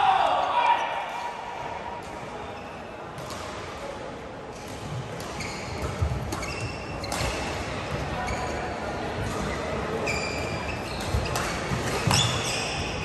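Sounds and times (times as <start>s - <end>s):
echoing sports hall noise: 0.0s - 13.0s.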